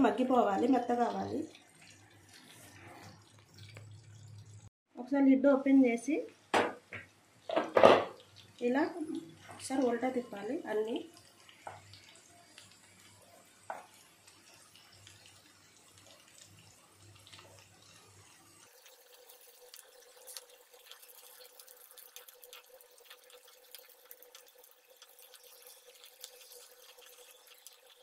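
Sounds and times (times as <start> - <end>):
oil sizzling and crackling: 0.0 - 4.8, 6.0 - 28.0.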